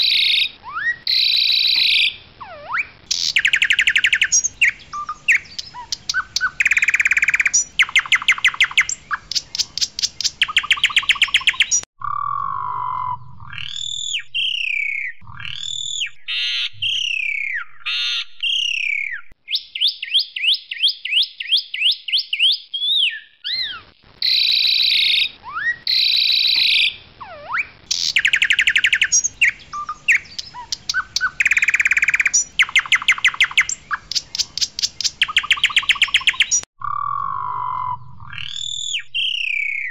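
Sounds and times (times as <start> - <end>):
starling singing: 0.0 - 20.8, 21.8 - 39.9.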